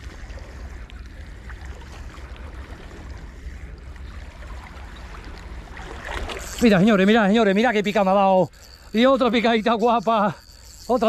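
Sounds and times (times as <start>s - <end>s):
water lapping against rocks: 0.0s - 11.0s.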